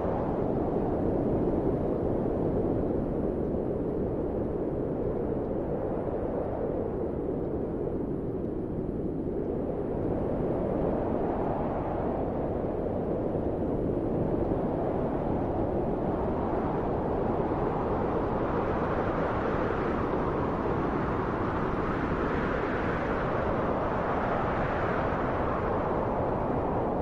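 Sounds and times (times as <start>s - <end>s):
wind blowing in a deep rush: 0.0s - 27.0s.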